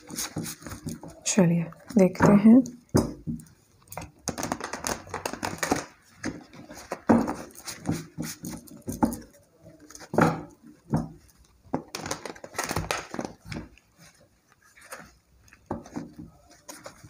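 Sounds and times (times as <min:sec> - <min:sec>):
cards being shuffled: 0:00.0 - 0:02.0, 0:04.0 - 0:10.2, 0:11.4 - 0:17.0.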